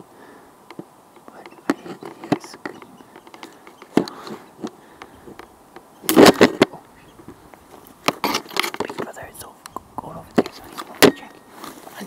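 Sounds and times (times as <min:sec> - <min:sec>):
camera brushing against branches: 0:01.2 - 0:12.0
scraping rustle: 0:01.3 - 0:09.2, 0:10.2 - 0:12.0.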